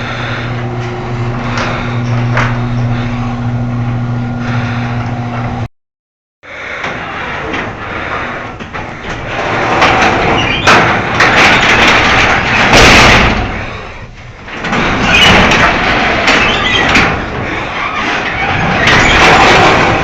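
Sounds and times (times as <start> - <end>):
garage door opener rumbling: 0.0 - 5.7, 6.6 - 20.0.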